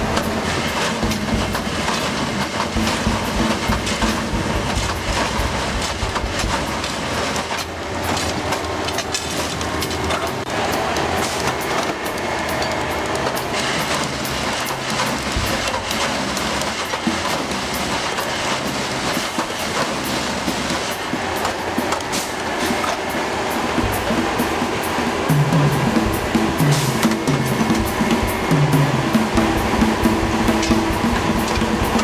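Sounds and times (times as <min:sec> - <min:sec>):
tamping machine mechanical din: 0:00.0 - 0:32.0.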